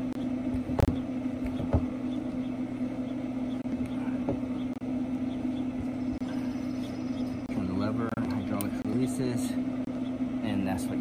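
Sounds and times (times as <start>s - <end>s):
grill motor hum: 0.0s - 11.0s.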